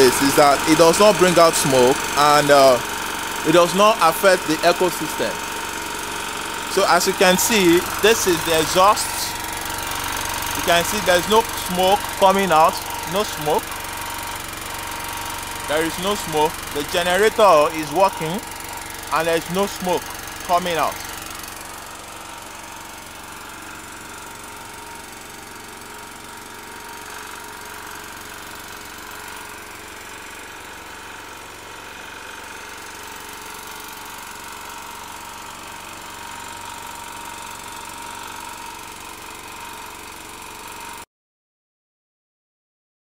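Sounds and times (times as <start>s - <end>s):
generator engine running: 0.0s - 41.0s.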